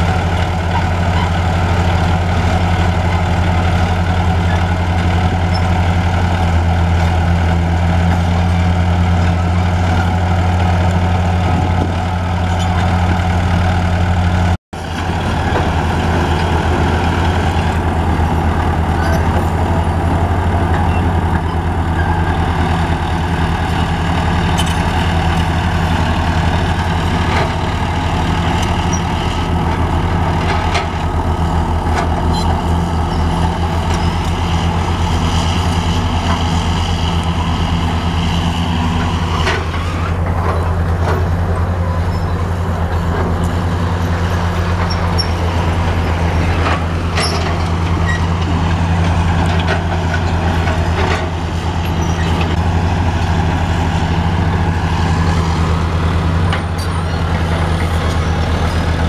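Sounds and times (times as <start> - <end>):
heavy diesel engines running: 0.0 - 59.0.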